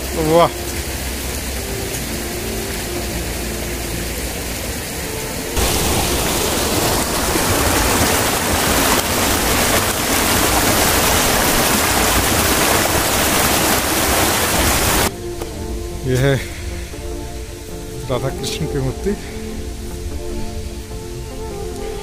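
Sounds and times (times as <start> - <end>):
outdoor hiss: 0.0 - 22.0
stream rushing over rocks: 0.0 - 22.0.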